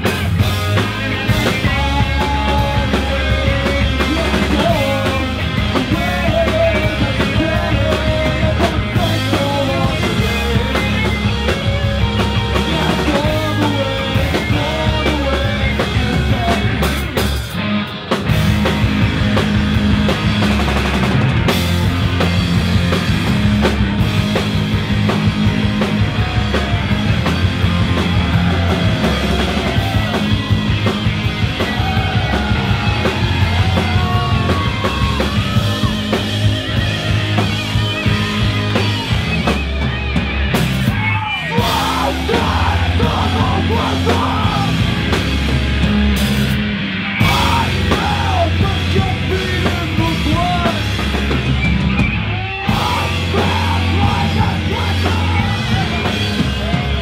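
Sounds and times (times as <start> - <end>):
punk rock band playing live: 0.0 - 57.0.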